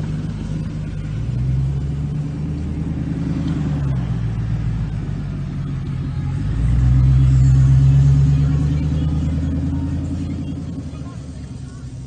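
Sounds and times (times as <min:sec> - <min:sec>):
vehicle engines at low revs: 0:00.0 - 0:12.0.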